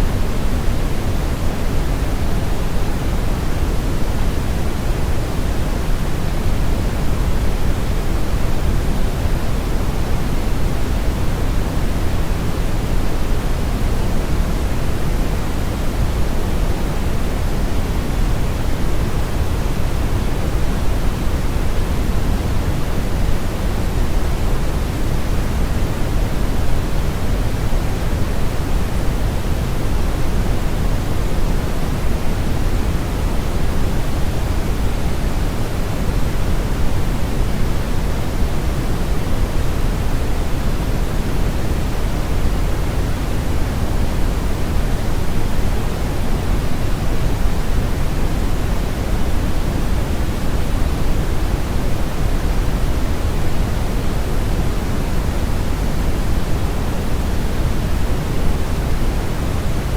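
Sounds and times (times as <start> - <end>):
steady noise hiss: 0.0 - 59.9.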